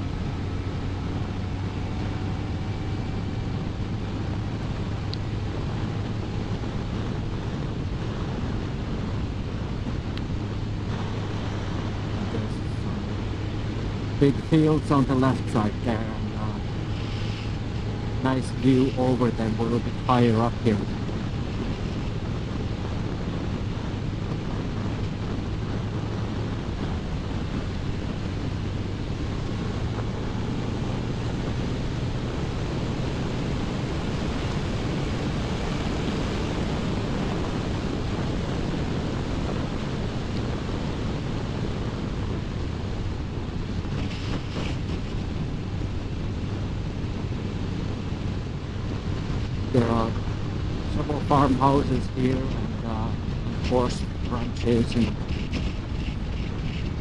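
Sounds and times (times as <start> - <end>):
motorcycle engine hum: 0.0 - 57.0
wind rushing over microphone: 0.0 - 57.0.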